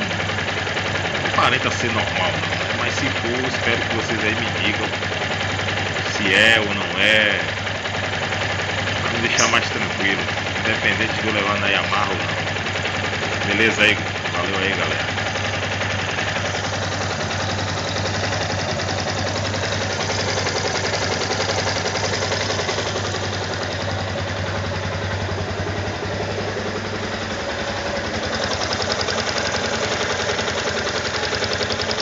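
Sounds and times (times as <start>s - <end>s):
single-cylinder engine ticking: 0.0s - 32.0s.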